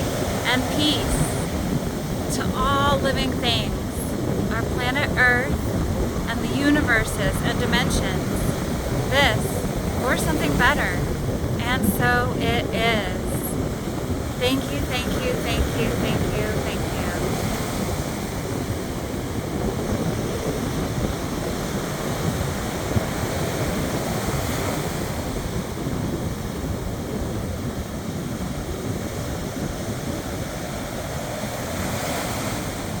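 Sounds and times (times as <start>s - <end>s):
ocean waves washing ashore: 0.0s - 33.0s.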